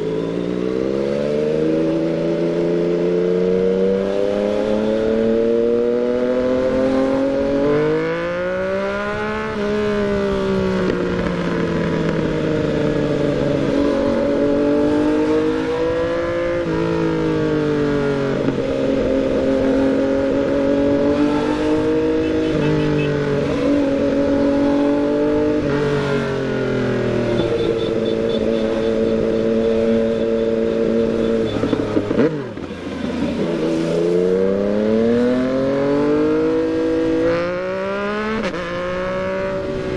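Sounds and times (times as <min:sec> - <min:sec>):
motorcycle engine accelerating and shifting: 0:00.0 - 0:39.9.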